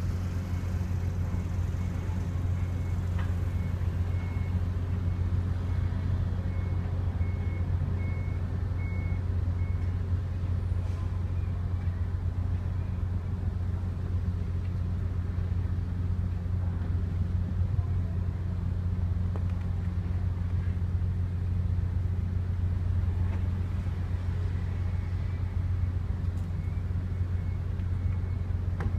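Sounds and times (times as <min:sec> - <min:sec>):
ferry diesel engines droning: 0:00.0 - 0:28.9.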